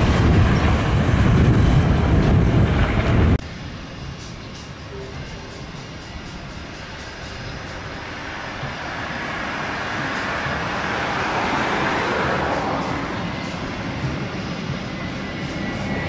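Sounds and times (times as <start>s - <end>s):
jet airliner engine roar: 0.0s - 16.0s.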